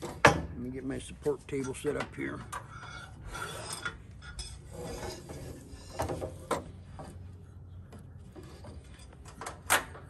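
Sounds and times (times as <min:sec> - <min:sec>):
knocks and scrapes of adjusting: 0:01.3 - 0:10.0.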